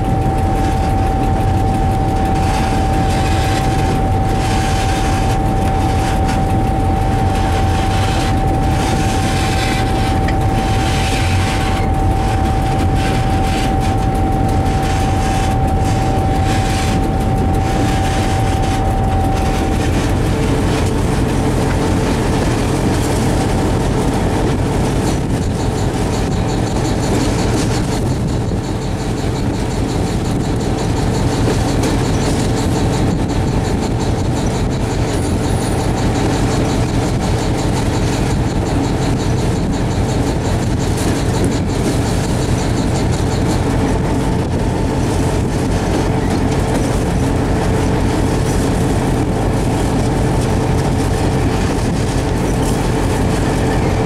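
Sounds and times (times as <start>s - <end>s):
diesel locomotive engine drone: 0.0s - 54.0s
steady whine: 0.0s - 54.0s
wheels on track: 0.0s - 54.0s.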